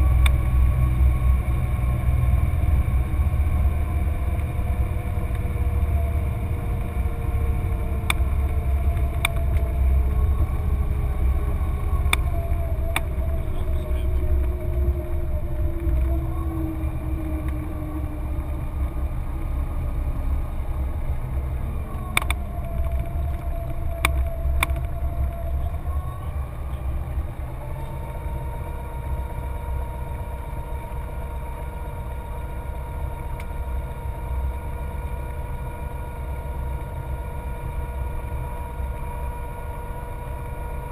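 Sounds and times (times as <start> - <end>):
plane engine idling: 0.0 - 40.9.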